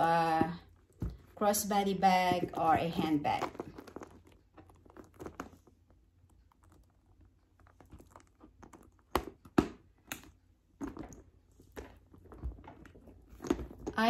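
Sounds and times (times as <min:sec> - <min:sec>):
handbags being handled: 0:00.0 - 0:14.0.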